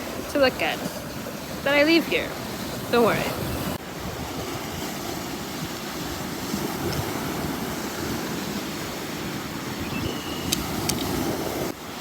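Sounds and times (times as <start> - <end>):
waves washing on shore: 0.0 - 12.0
wind: 0.0 - 12.0.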